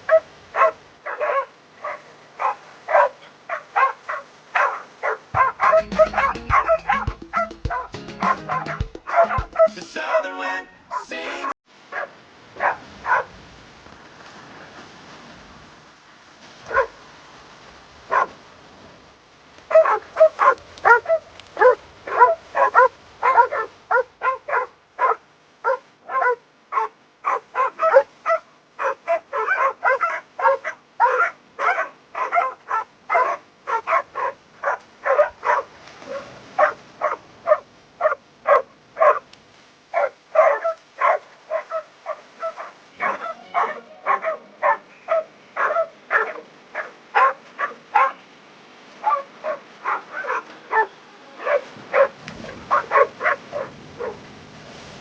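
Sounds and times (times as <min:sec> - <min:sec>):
dog barking: 0:00.0 - 0:10.3, 0:11.9 - 0:13.3, 0:16.7 - 0:17.0, 0:18.1 - 0:18.4, 0:19.7 - 0:39.3, 0:39.9 - 0:48.2, 0:49.0 - 0:54.2.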